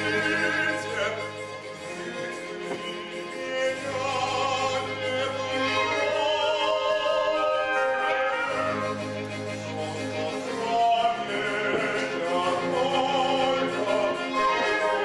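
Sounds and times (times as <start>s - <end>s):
man singing opera: 0.0s - 1.4s, 2.8s - 9.0s, 9.6s - 15.0s
string orchestra playing: 0.0s - 15.0s.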